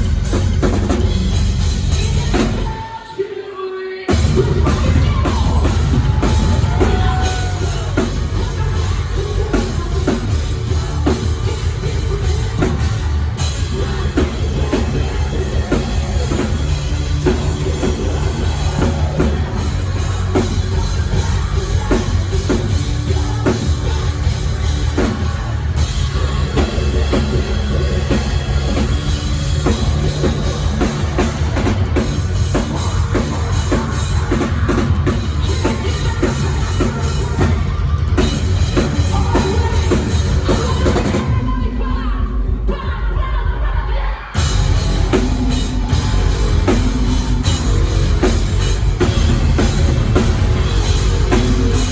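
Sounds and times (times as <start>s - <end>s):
live rock band playing: 0.0s - 3.2s, 4.1s - 41.5s, 44.4s - 51.9s
bass drum: 4.1s - 43.6s, 44.4s - 51.9s.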